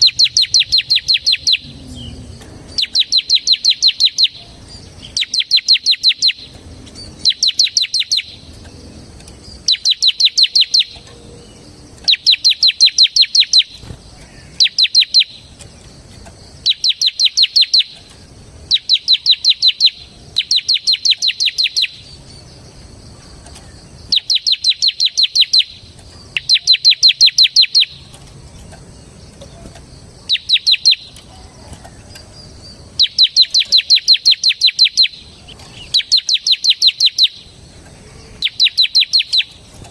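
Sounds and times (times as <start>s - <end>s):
prinia rattling song: 0.0s - 39.9s.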